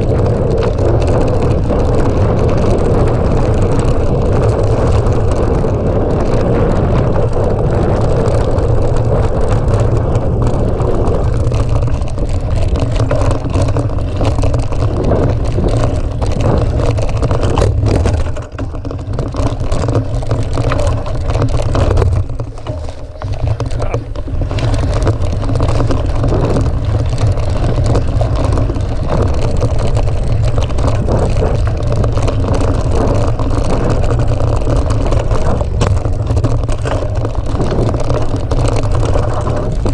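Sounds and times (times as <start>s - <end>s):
bike rattling over rough ground: 0.0s - 39.9s
wind buffeting microphone: 0.0s - 39.9s.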